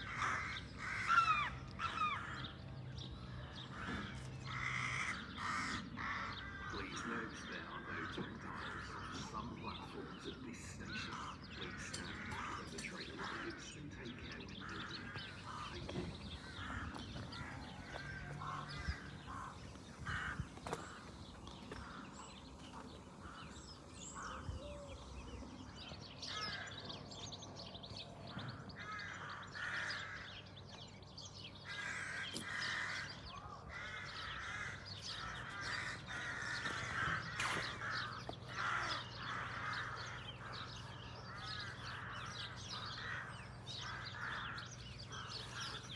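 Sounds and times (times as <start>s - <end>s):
birds calling: 0.0s - 45.9s.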